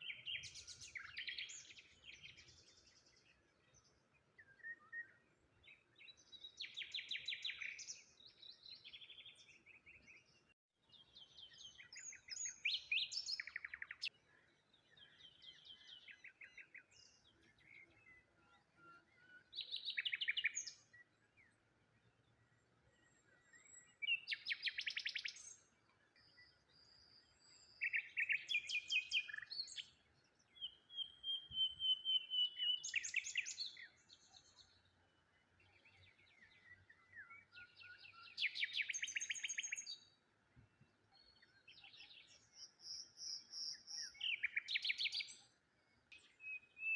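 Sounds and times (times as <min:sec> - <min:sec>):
songbirds singing trills: 0:00.0 - 0:46.9.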